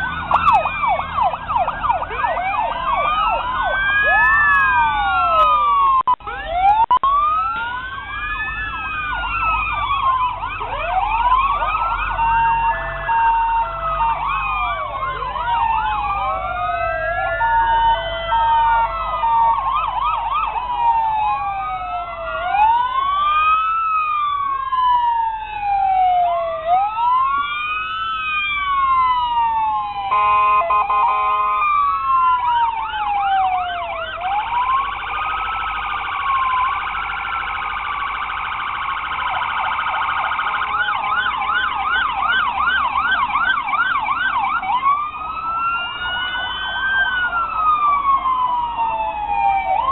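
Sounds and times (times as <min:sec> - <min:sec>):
fire truck sirens wailing: 0:00.0 - 0:49.9.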